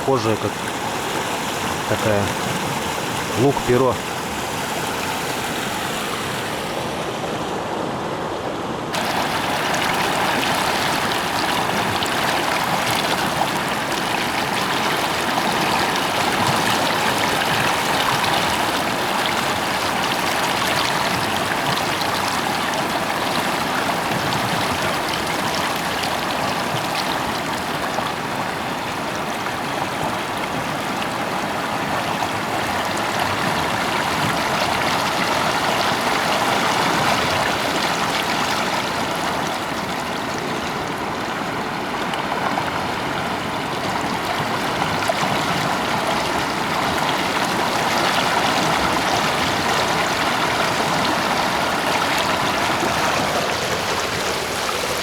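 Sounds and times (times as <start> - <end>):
river rushing and churning: 0.0 - 55.0.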